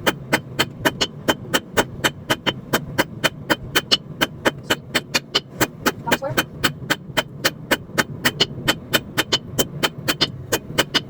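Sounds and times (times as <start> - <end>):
hammer striking steel on anvil: 0.0 - 11.0
steady low hum: 0.0 - 11.0.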